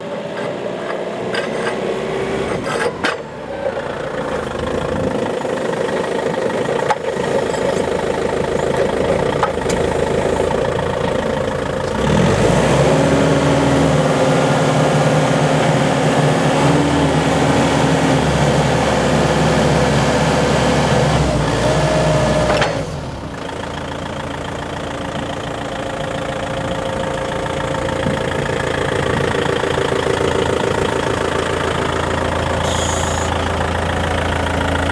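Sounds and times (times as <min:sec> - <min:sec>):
forklift engine idling and revving: 0:00.0 - 0:34.9.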